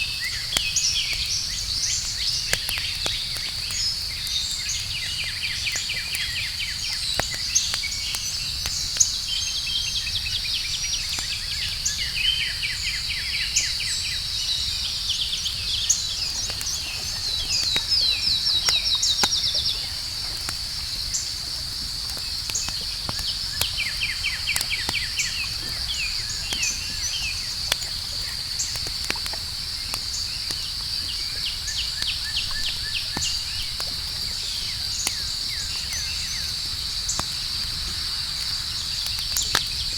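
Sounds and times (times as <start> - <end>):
campfire crackling: 0.0 - 39.9
night insects chirping: 0.0 - 39.9.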